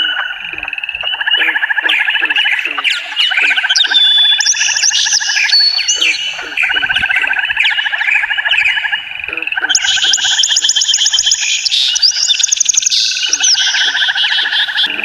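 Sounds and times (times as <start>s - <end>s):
frogs calling in pulsed trills: 0.0s - 15.0s
higher chirping calls: 0.0s - 15.0s.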